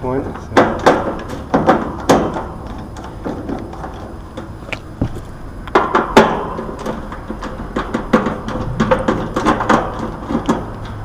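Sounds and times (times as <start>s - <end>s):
sharp knocks and clatter: 0.2s - 11.0s.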